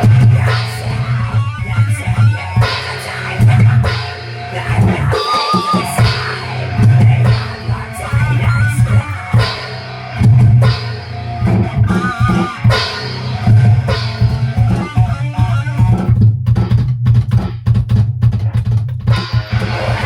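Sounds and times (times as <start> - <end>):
electric guitar: 0.0 - 16.2, 19.3 - 20.0
drum kit: 0.0 - 20.0.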